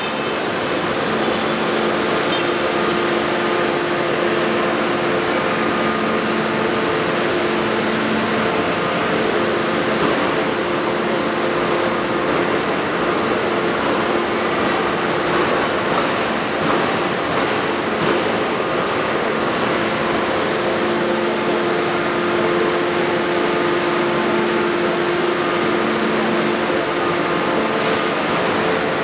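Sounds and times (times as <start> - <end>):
hydraulic system humming and hissing: 0.0 - 29.0.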